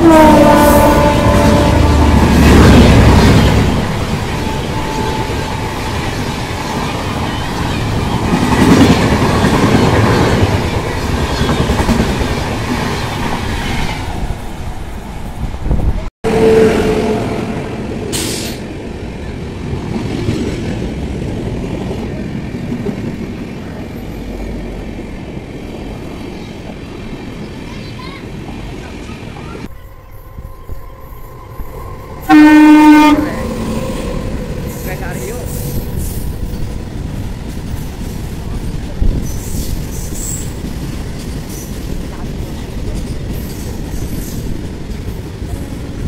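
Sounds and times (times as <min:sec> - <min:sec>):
train wheels rumbling on rails: 0:00.0 - 0:32.3, 0:33.0 - 0:46.0.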